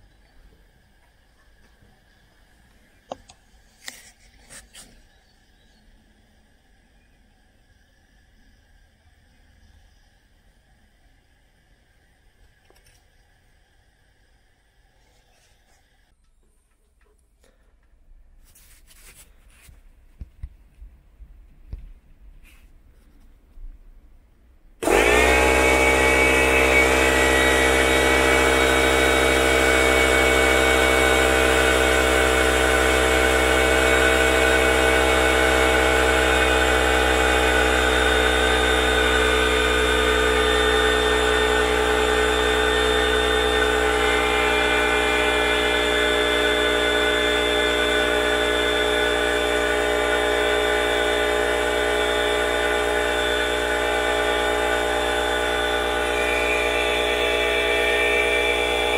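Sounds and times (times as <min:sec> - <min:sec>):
air compressor running: 0:00.0 - 0:16.1, 0:24.8 - 0:58.9.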